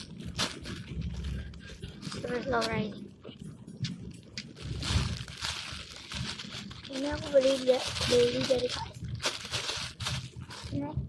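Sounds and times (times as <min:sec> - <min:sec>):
foam toy crackling and rustling: 0:00.0 - 0:03.5, 0:04.2 - 0:11.0.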